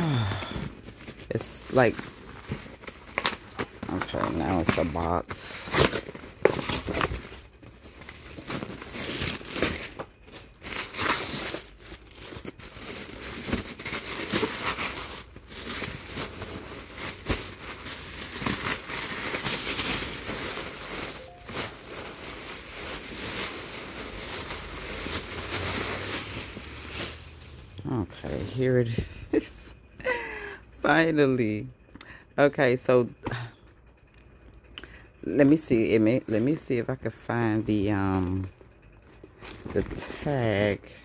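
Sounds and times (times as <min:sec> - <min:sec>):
plastic and paper crinkling: 0:00.0 - 0:28.8, 0:35.4 - 0:41.0.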